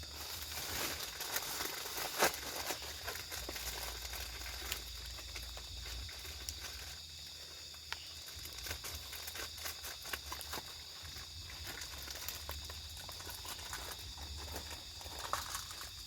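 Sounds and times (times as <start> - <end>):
night insects droning: 0.0 - 16.0.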